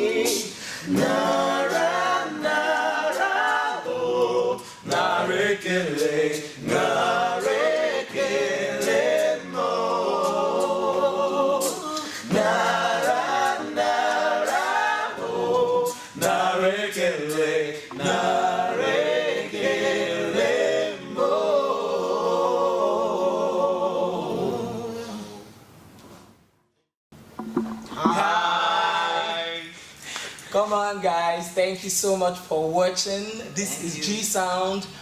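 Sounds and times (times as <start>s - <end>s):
a cappella group singing: 0.0s - 25.6s, 27.4s - 30.2s.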